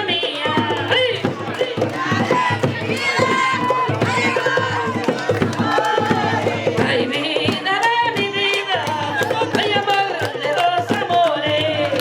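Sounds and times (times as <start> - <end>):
hand drums beating: 0.0 - 12.0
woman singing: 0.0 - 12.0.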